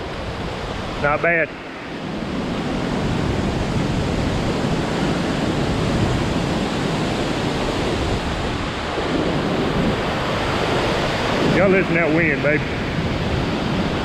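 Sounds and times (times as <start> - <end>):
strong wind blowing: 0.0 - 14.0
wind buffeting microphone: 0.0 - 14.0.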